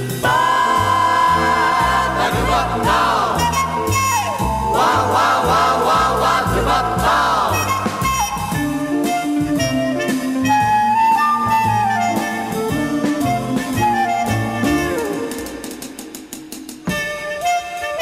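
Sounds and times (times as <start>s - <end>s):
jazz tune with wind instruments: 0.0s - 18.0s.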